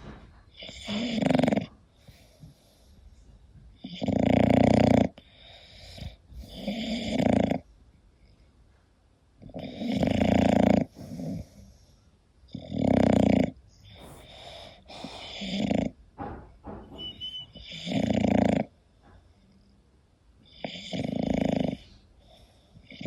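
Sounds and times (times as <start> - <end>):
quiet dog breaths: 0.0 - 4.2, 5.0 - 12.7, 13.7 - 19.8, 20.6 - 23.0
dog snoring: 0.1 - 2.8, 3.8 - 7.7, 9.4 - 11.9, 12.5 - 19.2, 20.4 - 23.0.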